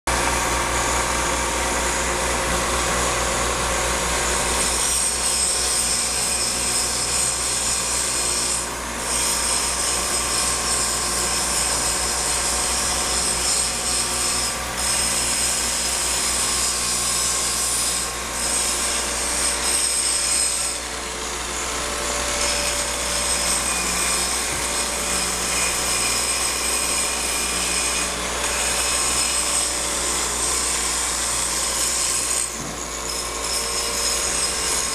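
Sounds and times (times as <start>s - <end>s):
high steady whining tones: 0.1s - 34.9s
machine-shop machinery running: 0.1s - 34.9s.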